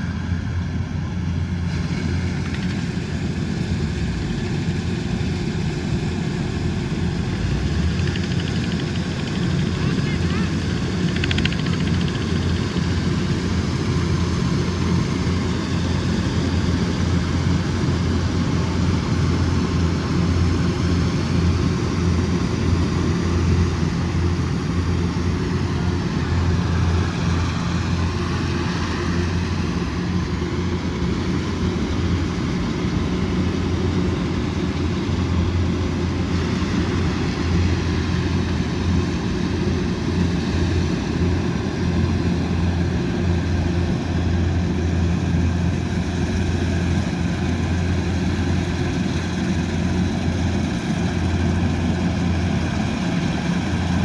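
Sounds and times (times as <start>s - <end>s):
combine harvester engine drone: 0.0s - 54.0s
machinery noise: 0.0s - 54.0s.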